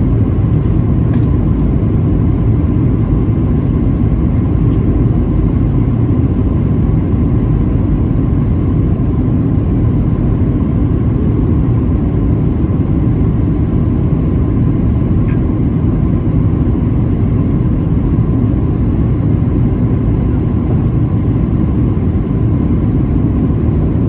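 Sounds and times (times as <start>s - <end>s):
aircraft cabin engine rumble: 0.0s - 24.0s
faint steady whine: 0.0s - 24.0s.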